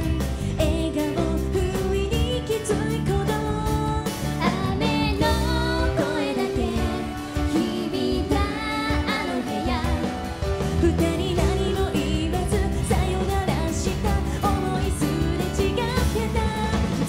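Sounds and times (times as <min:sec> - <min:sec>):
band with bass and beat: 0:00.0 - 0:17.0
woman singing into microphone: 0:00.0 - 0:17.0.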